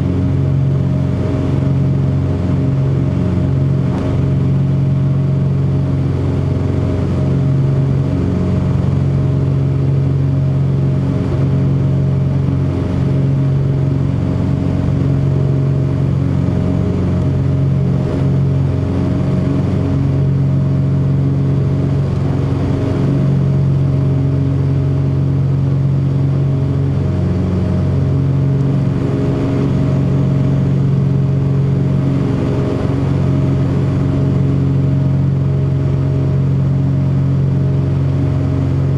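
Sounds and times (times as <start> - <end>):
propeller plane engines droning: 0.0 - 38.9.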